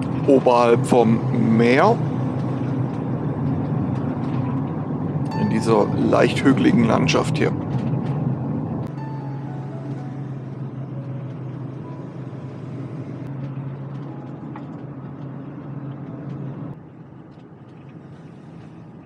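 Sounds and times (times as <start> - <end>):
van engine and road noise: 0.0 - 19.0.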